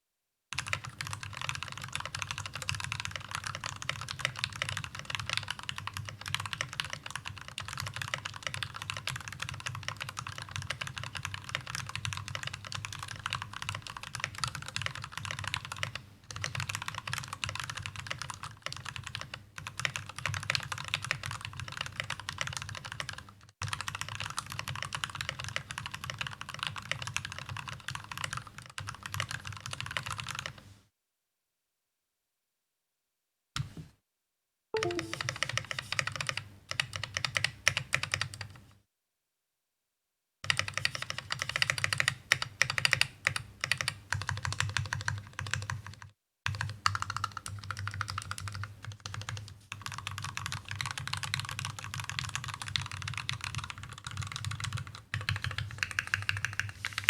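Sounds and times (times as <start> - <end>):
mechanical keyboard typing: 0.6 - 30.6, 34.8 - 38.6, 40.5 - 57.0.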